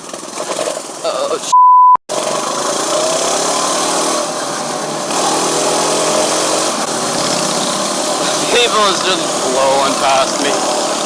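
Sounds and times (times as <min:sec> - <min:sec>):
minibike engine running: 0:00.0 - 0:01.5, 0:02.1 - 0:11.0.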